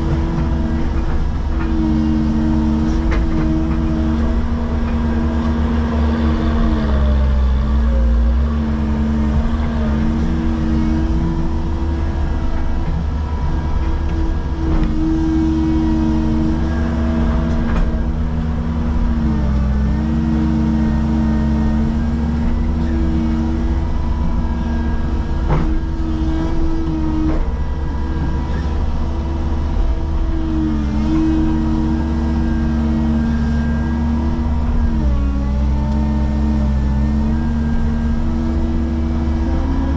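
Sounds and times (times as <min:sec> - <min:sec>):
excavator diesel engine rumble: 0:00.0 - 0:39.9
hydraulic whine: 0:00.0 - 0:39.9.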